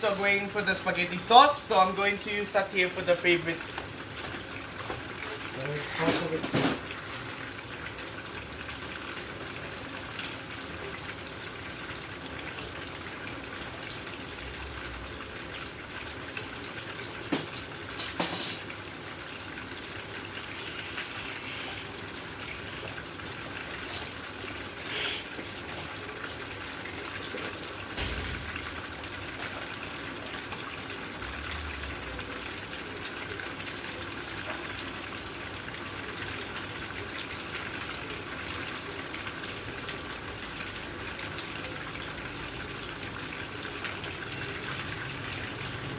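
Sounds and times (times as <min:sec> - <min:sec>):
meat sizzling in a pan: 0:03.6 - 0:45.9.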